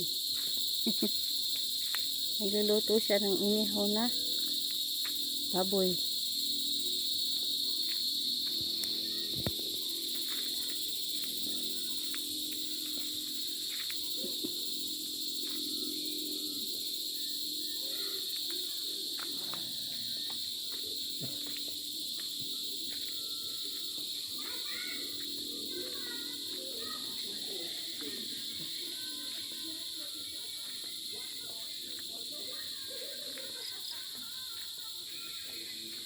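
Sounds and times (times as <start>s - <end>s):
high-pitched insect chorus: 0.0s - 36.0s.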